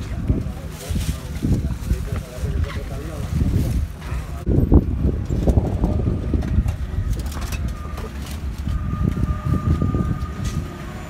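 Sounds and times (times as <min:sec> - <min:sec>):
faint background voices: 0:00.0 - 0:11.0
heavy uneven low rumble: 0:00.0 - 0:11.0.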